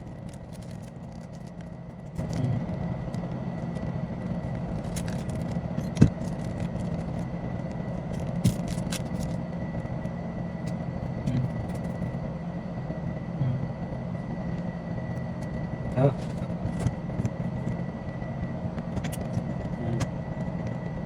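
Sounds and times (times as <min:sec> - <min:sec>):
faint high whine: 0:00.0 - 0:21.0
low mechanical hum: 0:00.0 - 0:21.0.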